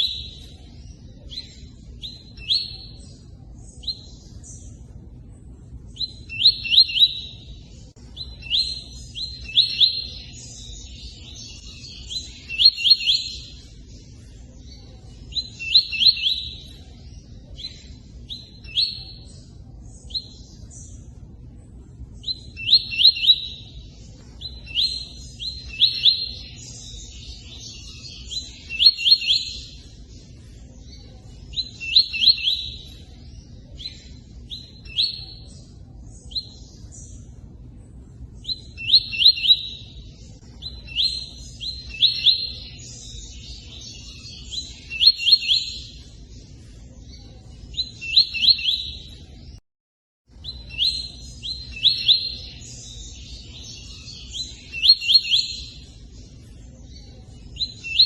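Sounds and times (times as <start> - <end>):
bird singing high clear notes: 0.0 - 4.9, 5.9 - 21.2, 22.2 - 37.4, 38.4 - 49.6, 50.4 - 58.0.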